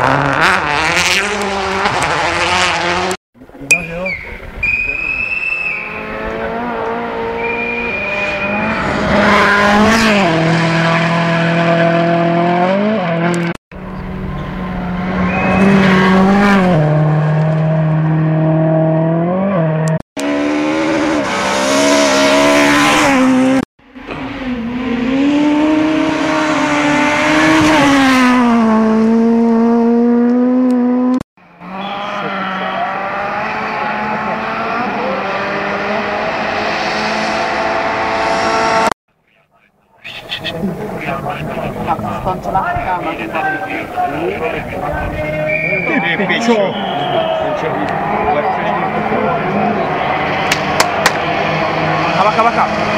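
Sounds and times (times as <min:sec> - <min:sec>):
rally car engines revving: 0:00.0 - 0:39.4, 0:40.2 - 0:52.9.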